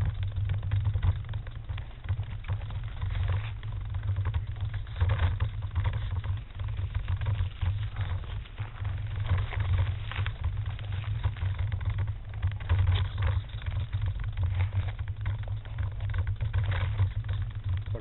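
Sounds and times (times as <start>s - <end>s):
microphone handling rumble: 0.0s - 18.0s.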